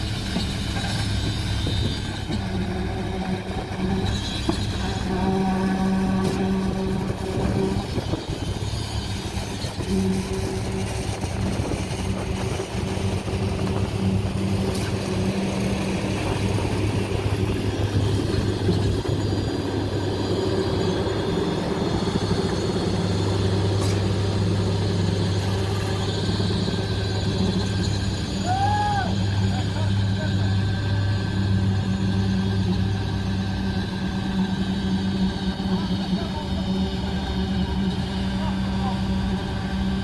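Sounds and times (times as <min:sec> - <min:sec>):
concrete pump engine drone: 0:00.0 - 0:40.0.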